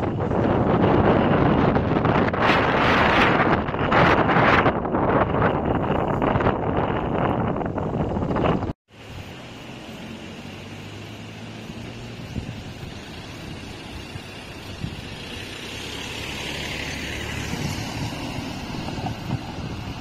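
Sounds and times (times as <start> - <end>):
low vehicle hum: 0.0 - 20.0.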